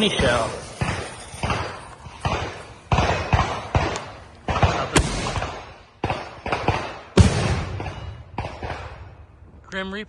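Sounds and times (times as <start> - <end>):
sharp echoing booms: 0.0 - 9.3.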